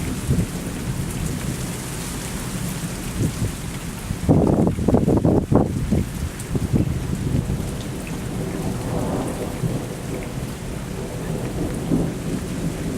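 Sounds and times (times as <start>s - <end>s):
steady rain: 0.0s - 12.9s
thunder rumbling: 0.0s - 12.9s.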